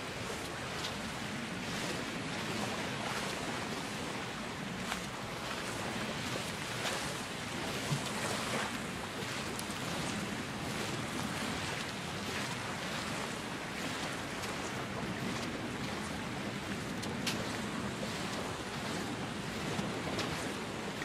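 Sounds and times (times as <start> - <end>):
surf washing onto sandy beach: 0.0 - 21.0
wind on microphone: 0.0 - 21.0.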